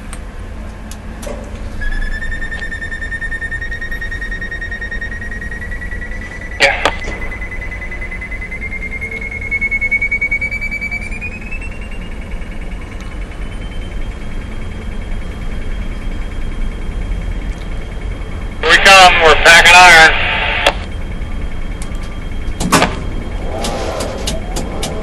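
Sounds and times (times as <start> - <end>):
crane drive whine: 0.0 - 25.0
steady low hum: 0.0 - 25.0.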